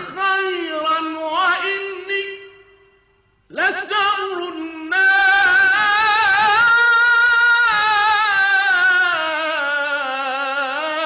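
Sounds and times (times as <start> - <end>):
man chanting devotional verse: 0.0 - 2.9, 3.5 - 11.0.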